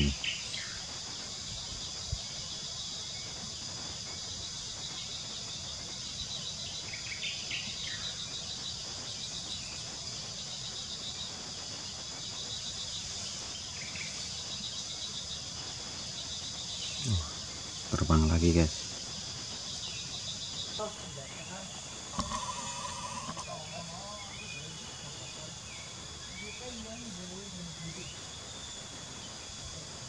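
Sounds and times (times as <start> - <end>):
faint bird chirps: 0.0 - 30.0
insects chirring: 0.0 - 30.0
pulsing insect trill: 0.0 - 30.0.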